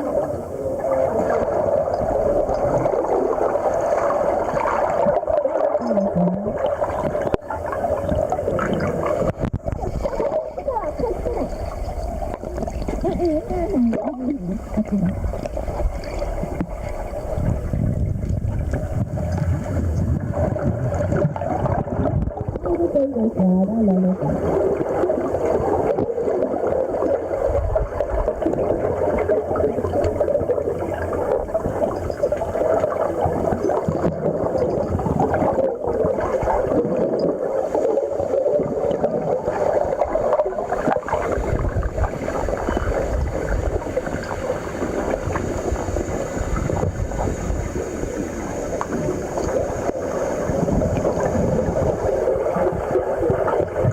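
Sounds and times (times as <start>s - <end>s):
boat engine drone underwater: 0.0s - 53.9s
water rushing: 0.0s - 53.9s.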